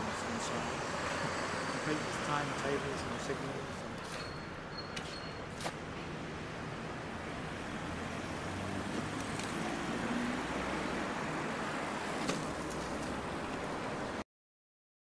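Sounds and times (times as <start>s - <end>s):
car tyres and engine rushing: 0.0s - 14.2s.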